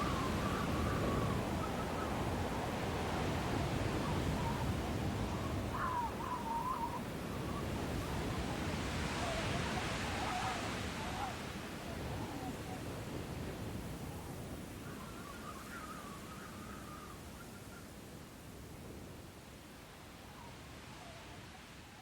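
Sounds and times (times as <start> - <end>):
wind rushing and howling: 0.0 - 21.9.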